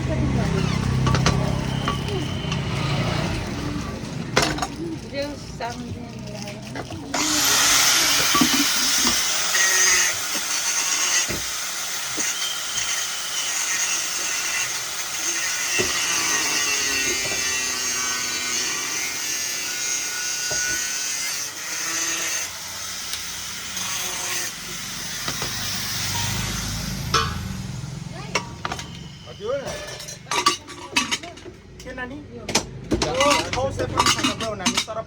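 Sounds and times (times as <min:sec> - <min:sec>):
power tool grinding: 0:00.0 - 0:31.8, 0:32.6 - 0:35.0.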